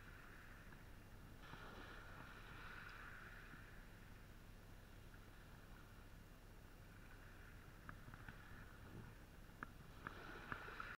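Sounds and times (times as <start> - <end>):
light rain hiss: 0.0 - 11.0.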